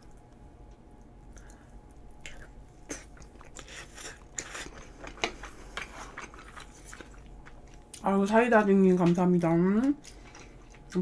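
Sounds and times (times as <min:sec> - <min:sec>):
person chewing crackling food: 0:00.0 - 0:08.2, 0:08.9 - 0:11.0.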